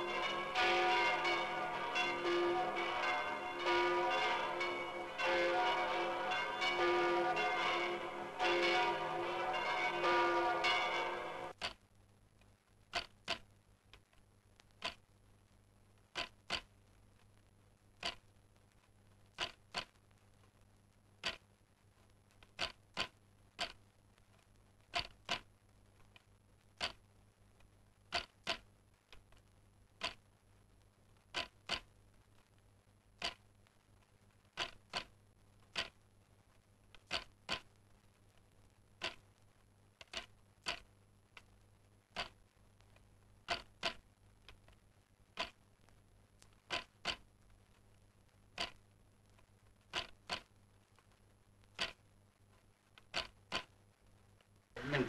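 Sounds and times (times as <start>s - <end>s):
faint low hum: 0.0s - 55.0s.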